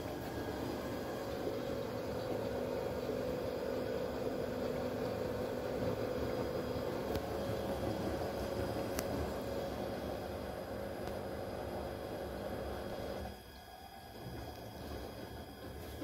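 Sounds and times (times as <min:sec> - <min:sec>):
washer-dryer humming: 0:00.0 - 0:16.0.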